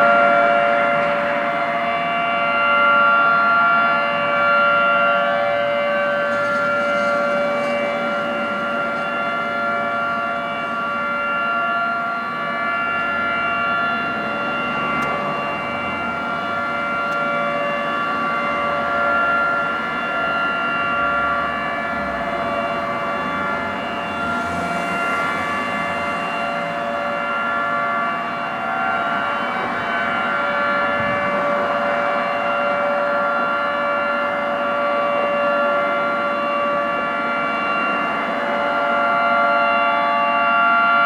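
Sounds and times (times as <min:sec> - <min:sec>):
two-pitch siren tone: 0:00.0 - 0:41.0.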